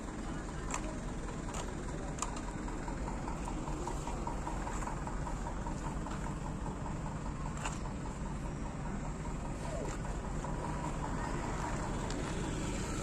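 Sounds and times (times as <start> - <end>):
truck engines idling: 0.0 - 13.0.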